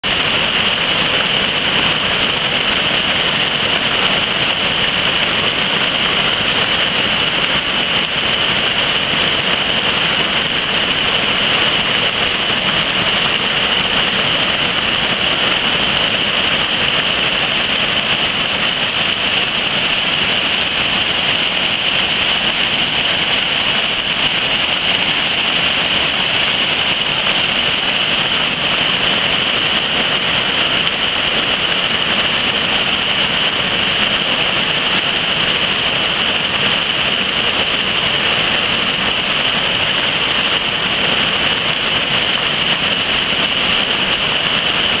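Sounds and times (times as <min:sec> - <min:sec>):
water rushing over weir: 0:00.0 - 0:45.0.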